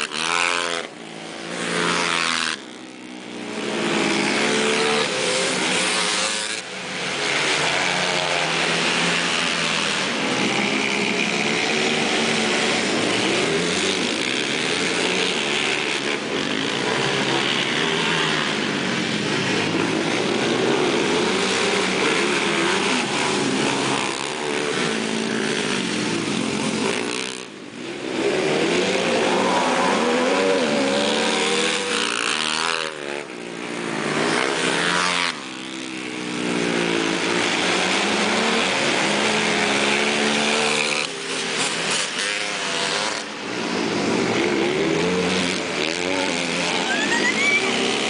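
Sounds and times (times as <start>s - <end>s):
atv engines revving: 0.0s - 48.0s.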